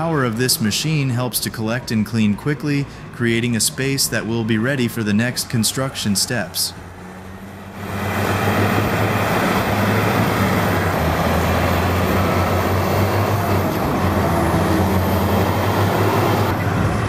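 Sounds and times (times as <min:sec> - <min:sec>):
diesel engines humming: 0:00.0 - 0:17.0.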